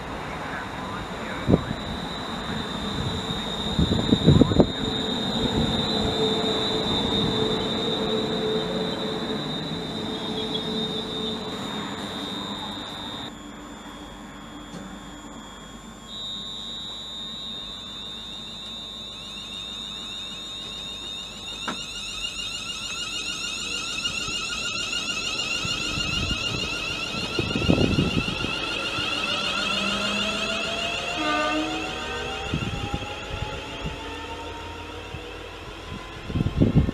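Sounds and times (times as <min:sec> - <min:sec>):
electric train traction whine: 0:00.0 - 0:36.9.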